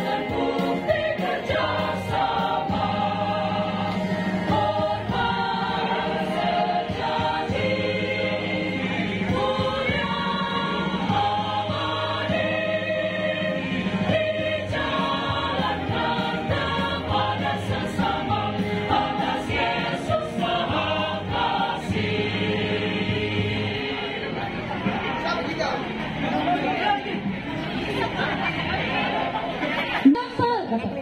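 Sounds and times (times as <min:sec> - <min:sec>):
mixed choir singing: 0:00.0 - 0:25.1.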